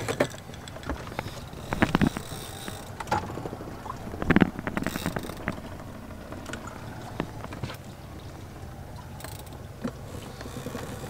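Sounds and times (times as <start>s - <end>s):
knocks and clunks on boat: 0.0s - 11.0s
water: 0.0s - 11.0s
wind: 0.0s - 11.0s.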